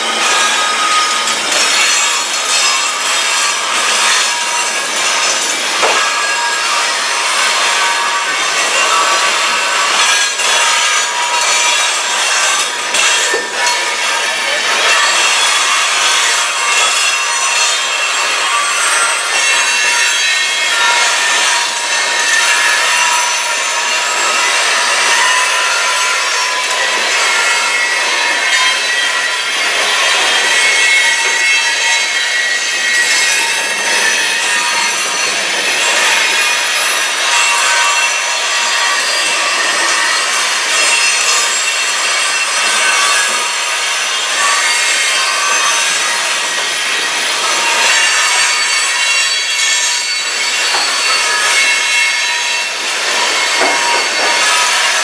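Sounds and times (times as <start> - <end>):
train wheels squealing on rails: 0.0 - 55.0.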